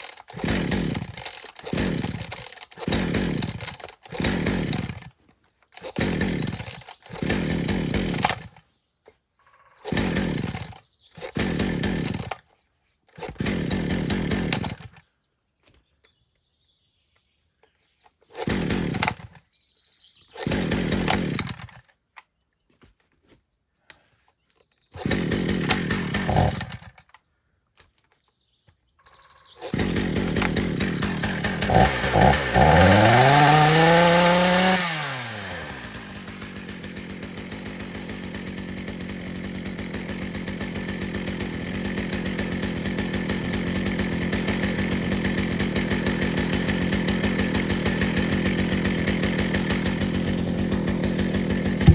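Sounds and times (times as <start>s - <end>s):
chainsaw starting and idling: 0.0s - 9.1s, 9.8s - 15.2s, 17.7s - 19.6s, 20.2s - 22.3s, 23.9s - 28.2s, 29.5s - 51.9s.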